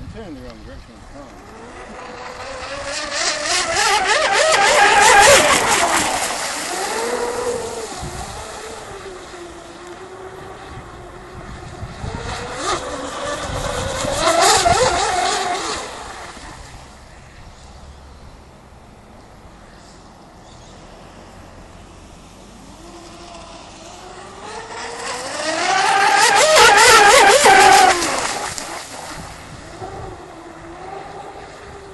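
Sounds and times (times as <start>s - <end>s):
rc boat motor whine: 0.0s - 18.2s, 20.8s - 31.9s.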